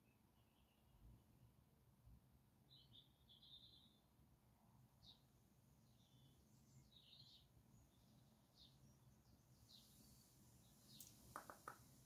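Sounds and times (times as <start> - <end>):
faint high bird chirps: 0.0 - 1.1, 2.6 - 4.2, 5.0 - 12.0.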